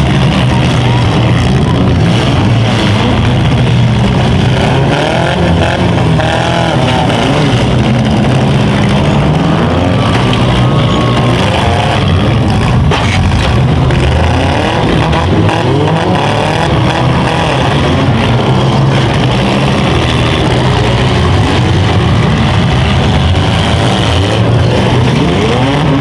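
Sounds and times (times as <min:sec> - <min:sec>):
small car engines revving hard: 0:00.0 - 0:26.0.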